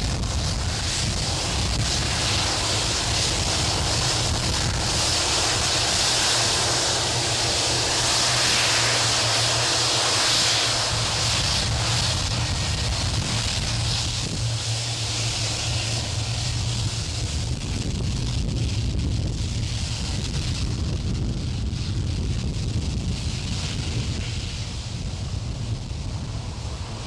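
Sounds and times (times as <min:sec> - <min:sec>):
jet engines running at taxi power: 0:00.0 - 0:27.0.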